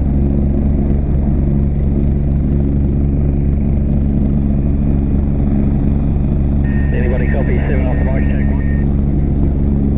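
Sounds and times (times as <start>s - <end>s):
helicopter engine and rotor drone: 0.0s - 9.9s.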